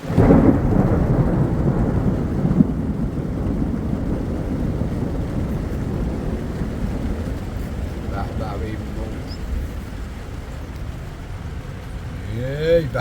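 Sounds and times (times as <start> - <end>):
thunder clap and rumble: 0.0 - 13.0.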